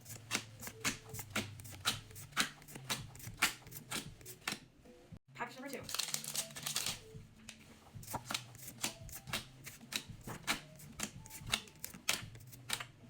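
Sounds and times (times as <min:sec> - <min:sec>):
trading cards snapping and sliding: 0:00.1 - 0:04.6, 0:05.9 - 0:13.0.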